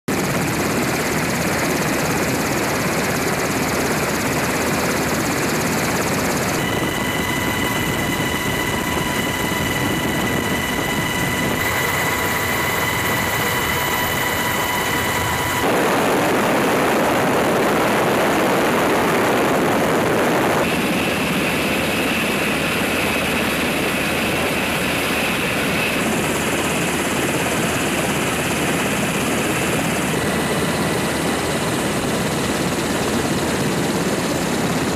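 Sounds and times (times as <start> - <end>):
helicopter rotor and engine: 0.1 - 34.9
high turbine whine: 0.1 - 34.9.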